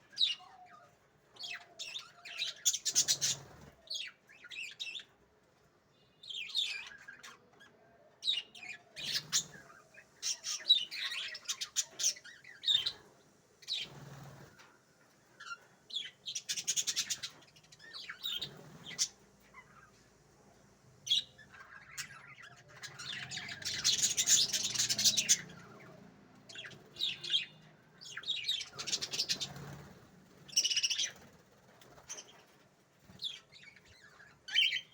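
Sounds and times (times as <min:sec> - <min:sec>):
small birds chirping and squawking: 0:00.0 - 0:34.9.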